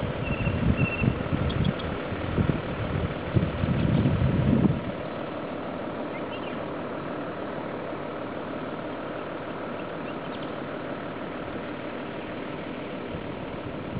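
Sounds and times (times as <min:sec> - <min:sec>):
outdoor background hiss: 0:00.0 - 0:13.9.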